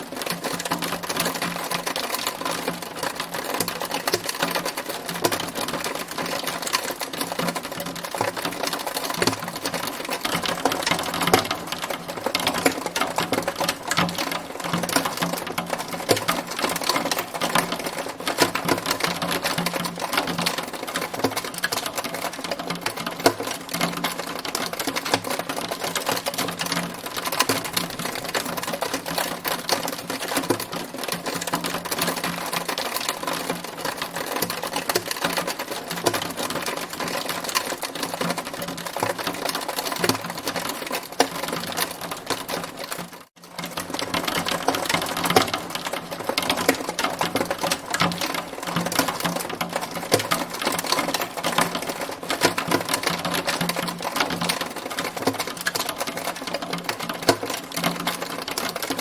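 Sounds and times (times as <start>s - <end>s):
hailstones on a hard surface: 0.0s - 59.0s.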